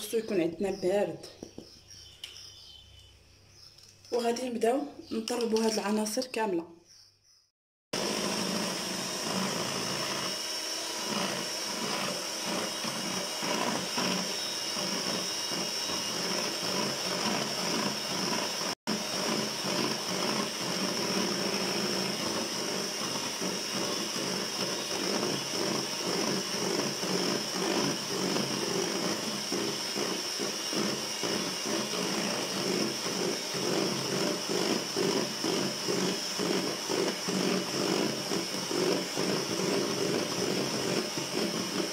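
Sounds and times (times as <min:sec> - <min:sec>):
electric hand mixer whining: 0:07.9 - 0:41.9.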